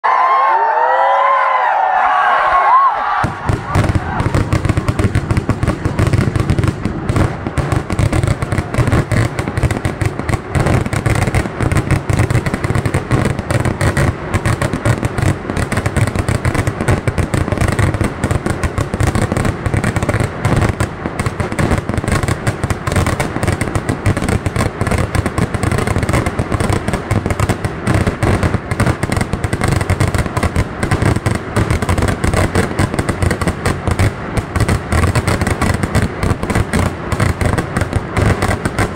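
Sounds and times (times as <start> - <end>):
firecrackers bangs barrage: 3.2 - 38.9.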